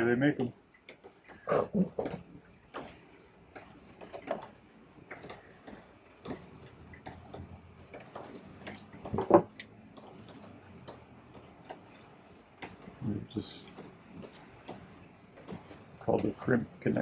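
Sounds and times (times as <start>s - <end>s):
clicks and taps handling wiring: 2.0s - 17.0s.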